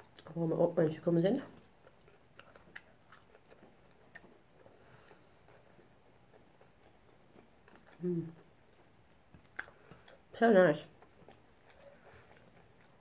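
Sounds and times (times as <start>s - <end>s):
person chewing food: 0.0s - 0.4s, 1.5s - 13.0s.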